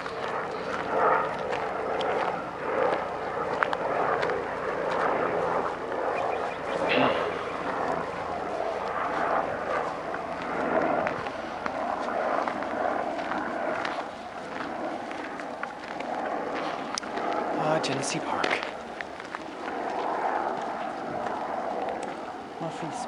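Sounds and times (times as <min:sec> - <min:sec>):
footsteps crunching on gravel: 0:00.0 - 0:22.4
outdoor background rush: 0:00.0 - 0:23.0.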